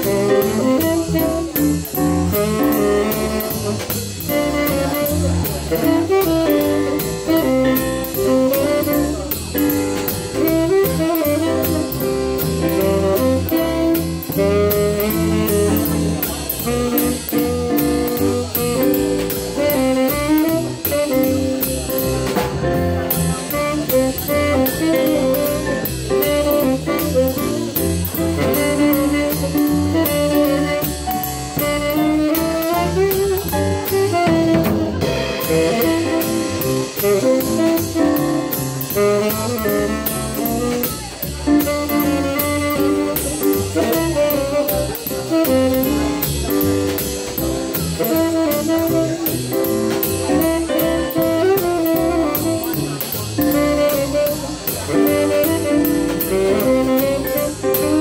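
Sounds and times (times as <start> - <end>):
bending melody line: 0.0 - 58.0
jazz combo playing swing: 0.0 - 58.0.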